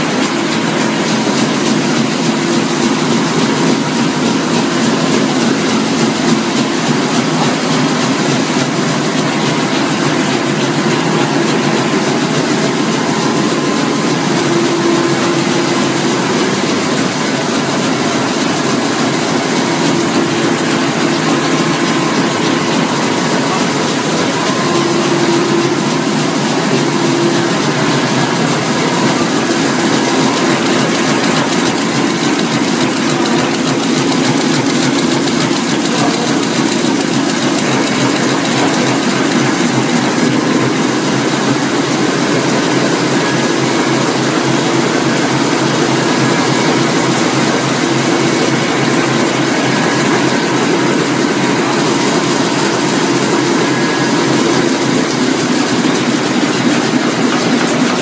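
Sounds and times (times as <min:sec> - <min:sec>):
constant machine hum: 0:00.0 - 0:58.0
printing press clattering: 0:00.0 - 0:58.0.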